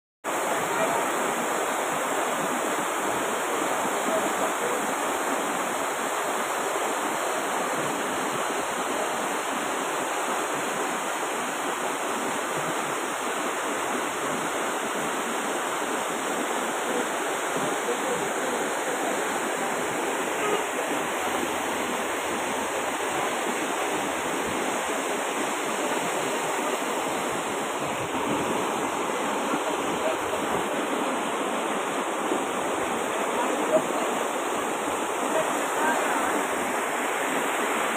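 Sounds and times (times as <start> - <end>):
floodwater rushing: 0.3 - 37.9.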